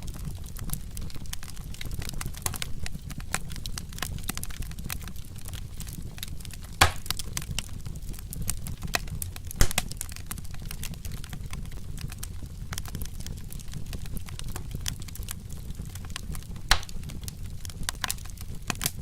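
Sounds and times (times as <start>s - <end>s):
loud pops from fire: 0.0s - 19.0s
low rumble of burning: 0.0s - 19.0s
wood fire crackling: 0.0s - 19.0s.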